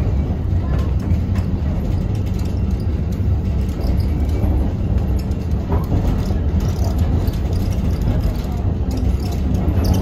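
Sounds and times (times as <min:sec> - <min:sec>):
tram running noise: 0:00.0 - 0:10.0.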